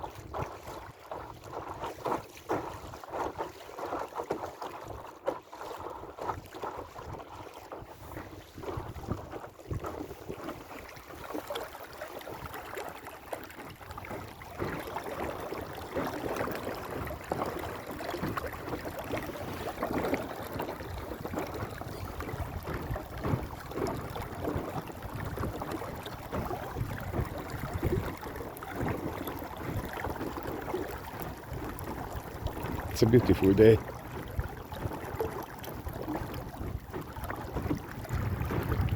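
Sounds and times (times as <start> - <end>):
water splashing against a hull: 0.0 - 38.9.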